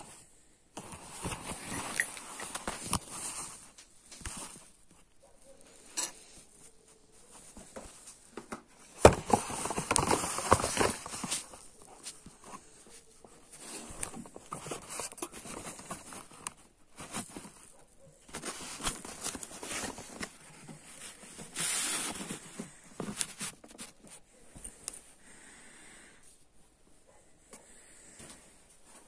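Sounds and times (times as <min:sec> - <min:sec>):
cloth rustling on microphone: 0:00.0 - 0:05.2, 0:06.2 - 0:25.1.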